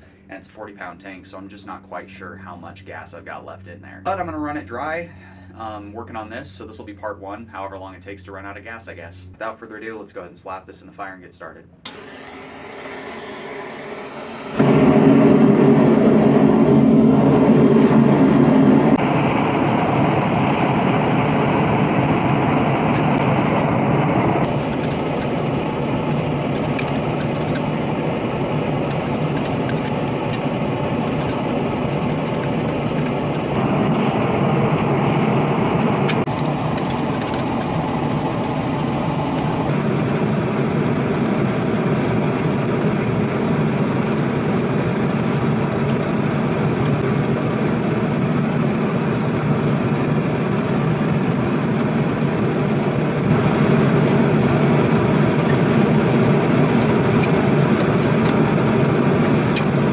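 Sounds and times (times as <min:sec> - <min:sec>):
gas forge burner roaring: 0:11.8 - 0:59.9.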